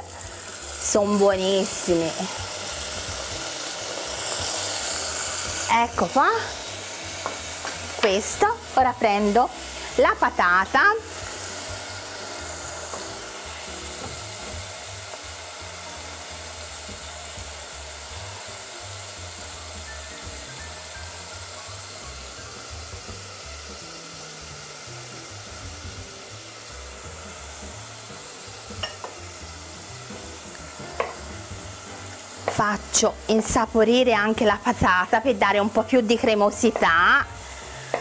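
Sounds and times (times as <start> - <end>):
vegetables sizzling in hot oil: 0.0 - 38.0.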